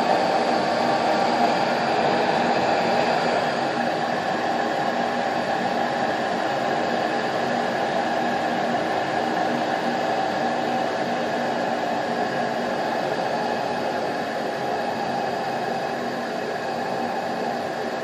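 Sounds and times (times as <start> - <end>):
furnace motor whirring and humming: 0.0 - 18.0.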